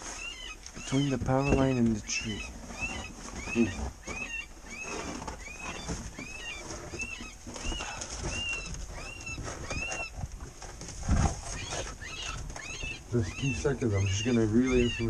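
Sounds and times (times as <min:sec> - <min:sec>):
high arching squeals: 0:00.1 - 0:10.1, 0:11.4 - 0:15.0.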